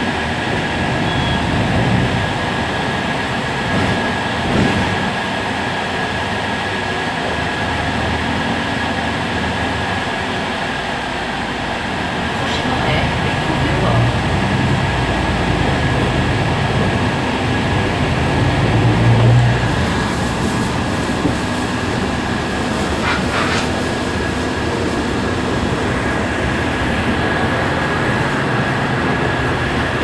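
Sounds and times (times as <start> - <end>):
bus engine idling: 0.0 - 30.0.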